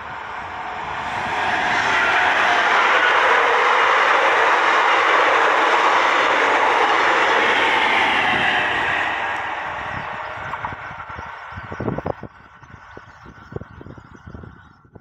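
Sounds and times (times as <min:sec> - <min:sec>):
electric train passing: 0:00.0 - 0:14.7.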